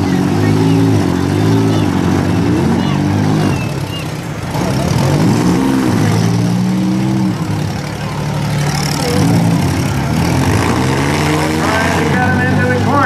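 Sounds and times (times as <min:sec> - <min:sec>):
car engines revving hard: 0:00.0 - 0:13.0.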